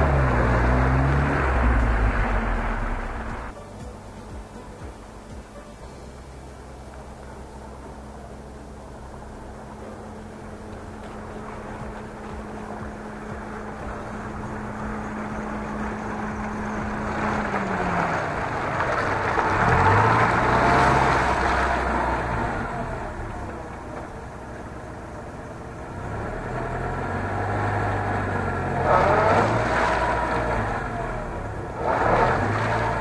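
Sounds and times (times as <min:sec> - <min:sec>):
car engine pulling off-road: 0:00.0 - 0:33.0.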